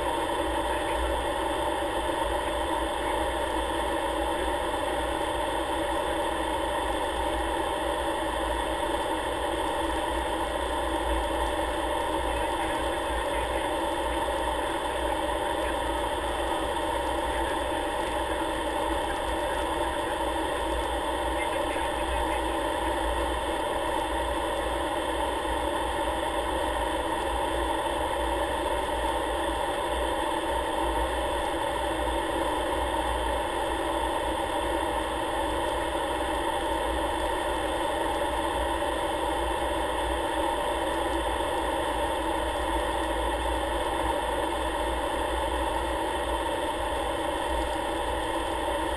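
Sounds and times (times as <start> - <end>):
aircraft engine drone: 0.0 - 48.9.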